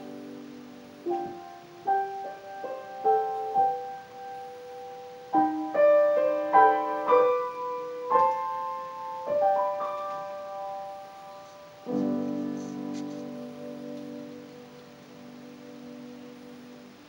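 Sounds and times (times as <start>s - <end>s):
piano playing chords: 0.0s - 17.0s.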